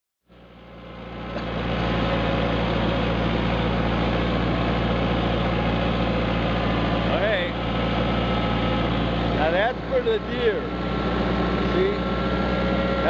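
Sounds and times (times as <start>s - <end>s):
tractor engine running: 0.3s - 13.0s.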